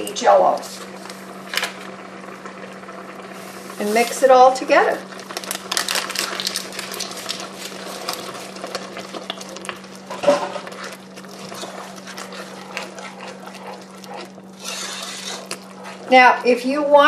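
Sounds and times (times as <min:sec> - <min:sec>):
steady low hum: 0:00.0 - 0:17.0
wooden spoon stirring in pot: 0:03.3 - 0:17.0.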